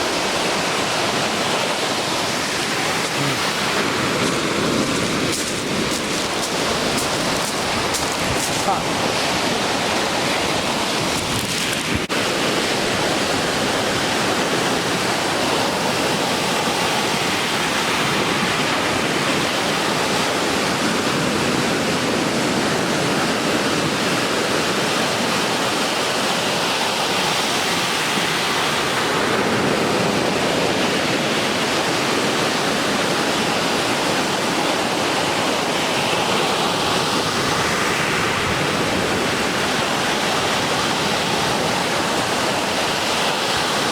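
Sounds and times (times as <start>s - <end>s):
ocean waves breaking: 0.0s - 43.9s.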